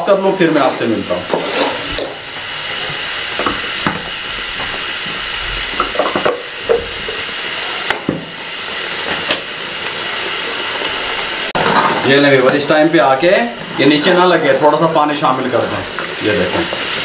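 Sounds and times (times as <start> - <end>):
paste sizzling in pot: 0.0 - 17.0.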